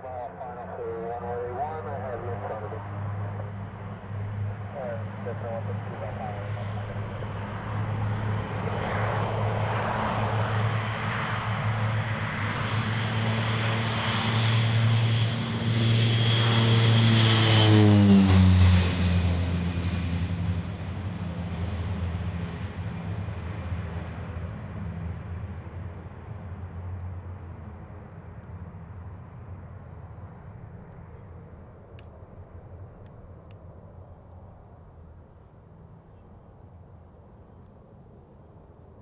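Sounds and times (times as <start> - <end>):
turboprop propeller drone: 0.0 - 39.0.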